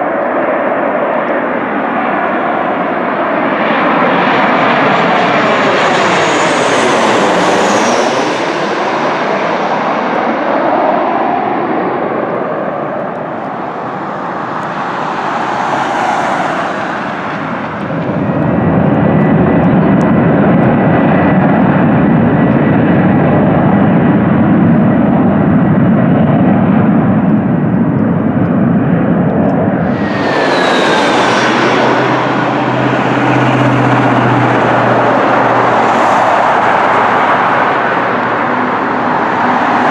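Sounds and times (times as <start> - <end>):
approaching jet roar and whine: 0.0 - 39.9
jet engines passing overhead: 0.0 - 39.9
low rumble of landing plane: 0.0 - 39.9.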